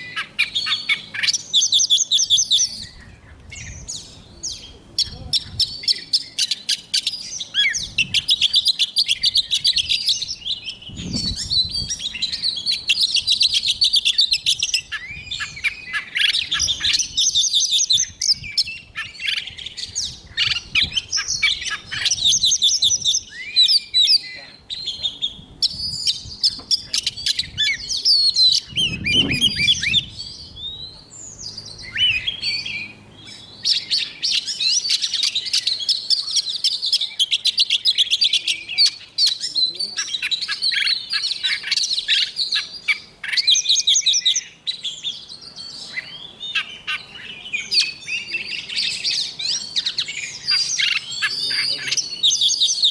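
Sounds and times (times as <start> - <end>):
bird singing trills and whistles: 0.0 - 52.9.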